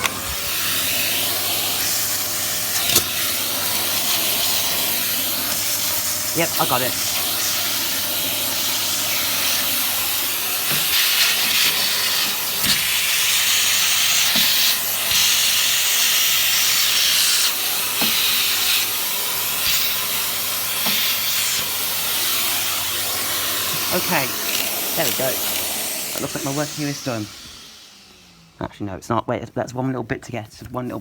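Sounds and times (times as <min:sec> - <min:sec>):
vacuum cleaner rushing hiss: 0:00.0 - 0:28.7.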